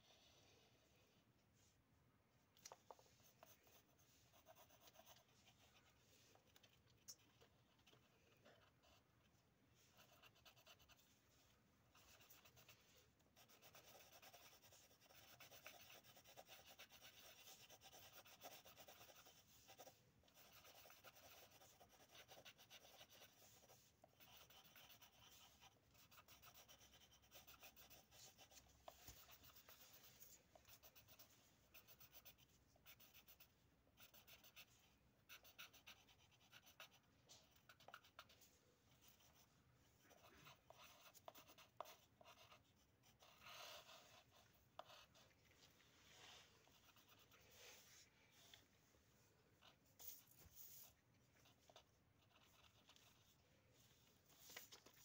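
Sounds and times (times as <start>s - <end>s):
pencils scratching on paper: 2.9s - 9.0s, 9.8s - 11.2s, 11.9s - 45.4s, 46.1s - 48.0s, 49.6s - 53.4s.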